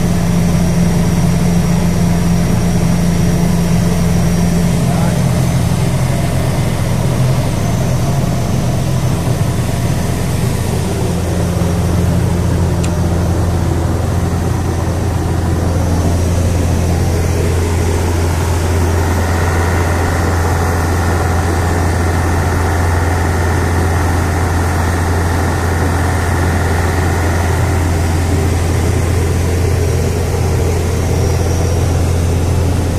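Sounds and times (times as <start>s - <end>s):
motorboat engine droning: 0.0s - 32.9s.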